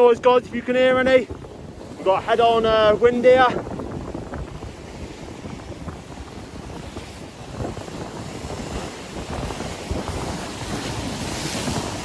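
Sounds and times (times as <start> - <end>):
wind buffeting microphone: 0.0 - 12.0
sea swell breaking on rocks: 1.3 - 12.0.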